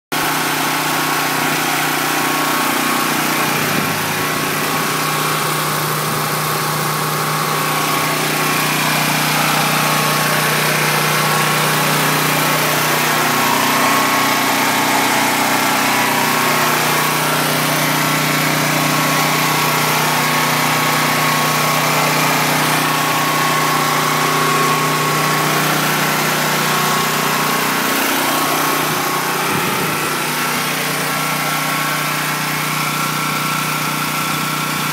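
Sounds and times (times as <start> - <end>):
portable generator running: 0.1 - 34.9
car engine idling: 0.2 - 34.9.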